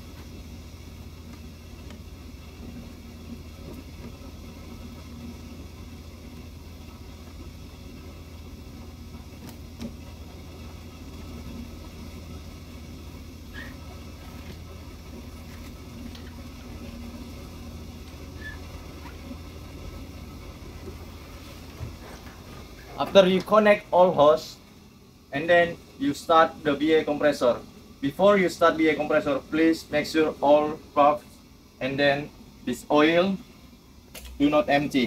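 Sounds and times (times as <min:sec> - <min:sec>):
low machinery hum: 0:00.0 - 0:35.0.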